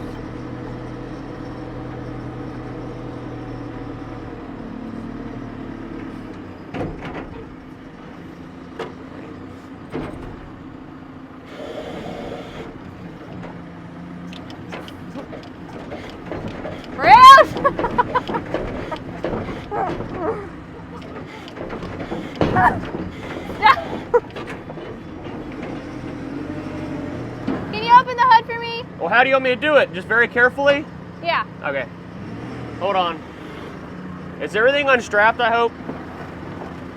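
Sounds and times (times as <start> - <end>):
clunks: 0.0 - 28.6, 32.4 - 36.9
truck engine idling: 0.0 - 36.9.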